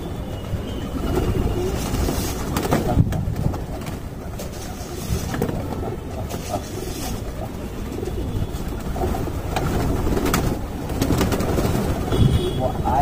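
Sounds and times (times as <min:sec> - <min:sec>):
pigeons cooing: 0:00.0 - 0:12.5
wings flapping: 0:00.0 - 0:12.6.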